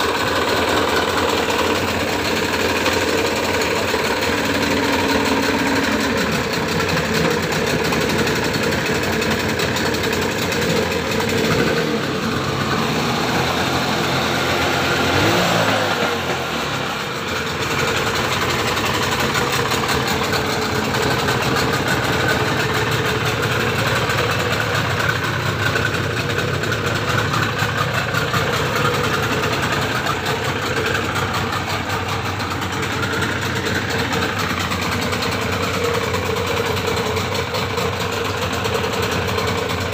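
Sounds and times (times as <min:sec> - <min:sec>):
outboard motor idling: 0:00.0 - 0:39.9
propeller churning water: 0:00.0 - 0:39.9.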